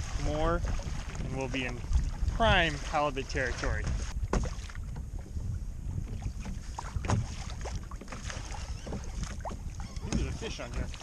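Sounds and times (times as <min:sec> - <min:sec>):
water lapping against hull: 0:00.0 - 0:11.0
wind buffeting microphone: 0:00.0 - 0:11.0.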